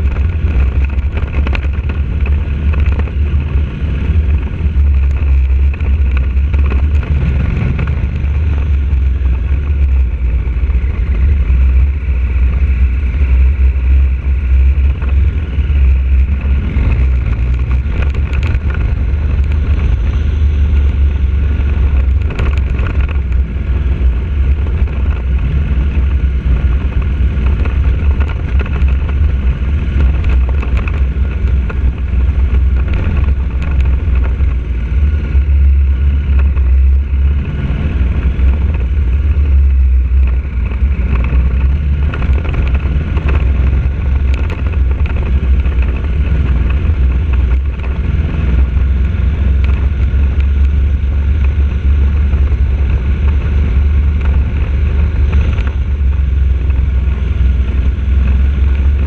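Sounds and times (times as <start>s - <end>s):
heavy low rumble: 0.0s - 59.0s
motorcycle engine running: 0.0s - 59.0s.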